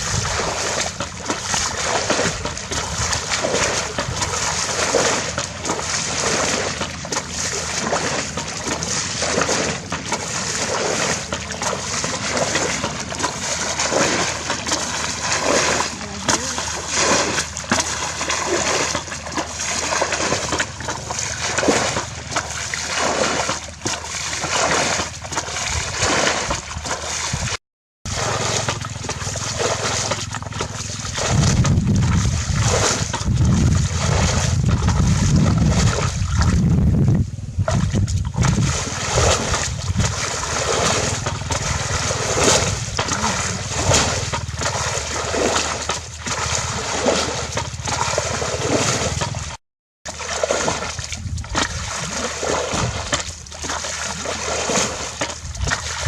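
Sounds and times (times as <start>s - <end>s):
shallow water splashing: 0.0s - 37.0s, 37.6s - 56.0s.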